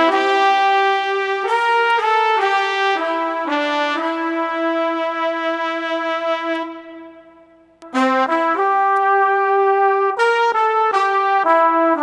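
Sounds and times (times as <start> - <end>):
keyboard brass melody: 0.0 - 12.0.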